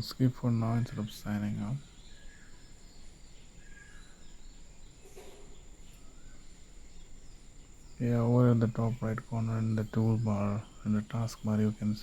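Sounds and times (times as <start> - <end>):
steady high-pitched whine: 0.0 - 12.0.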